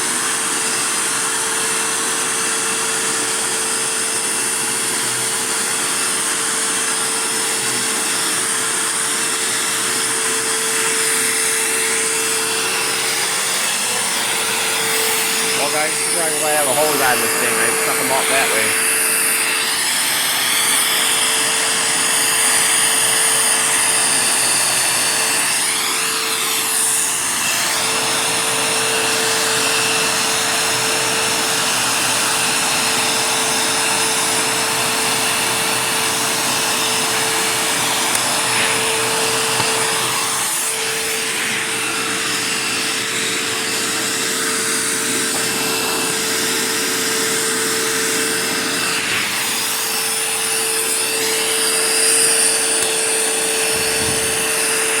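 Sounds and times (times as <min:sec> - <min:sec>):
vacuum cleaner motor whine: 0:00.0 - 0:55.0.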